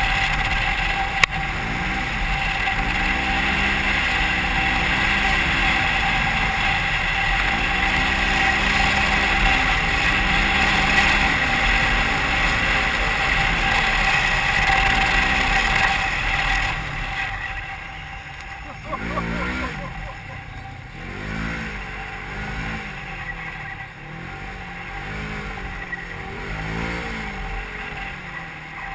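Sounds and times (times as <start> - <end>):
off-road vehicle engine revving: 0.0 - 28.9
wind and driving noise: 0.0 - 28.9.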